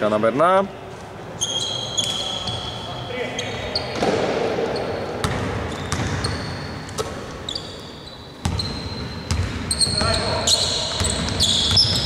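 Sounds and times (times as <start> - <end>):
sneakers squeaking on floor: 1.4 - 12.0.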